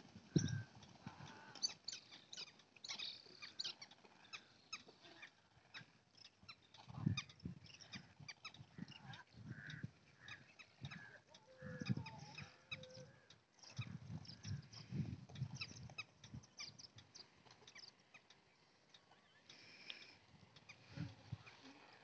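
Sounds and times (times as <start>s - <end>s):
flock of waterbirds calling: 0.0s - 22.0s.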